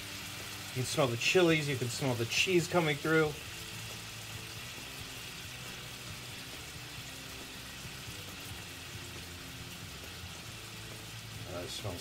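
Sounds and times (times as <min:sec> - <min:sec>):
sauce simmering in a skillet: 0:00.0 - 0:12.0.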